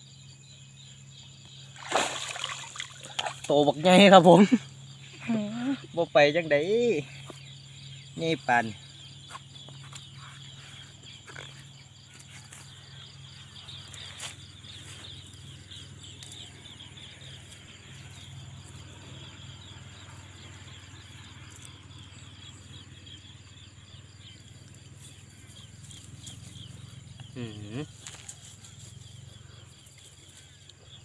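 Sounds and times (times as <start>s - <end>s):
crickets and insects chirring: 0.0s - 31.0s.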